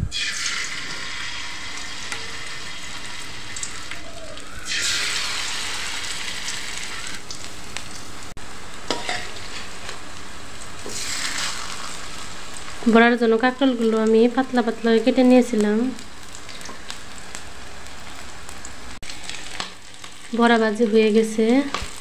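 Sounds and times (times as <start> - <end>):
fritters sizzling in hot oil: 0.1 - 22.0.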